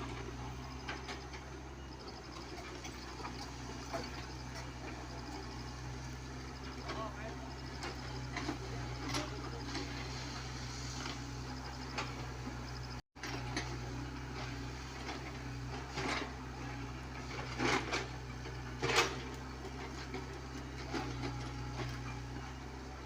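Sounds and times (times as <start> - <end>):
excavator diesel engine humming: 0.0 - 23.0.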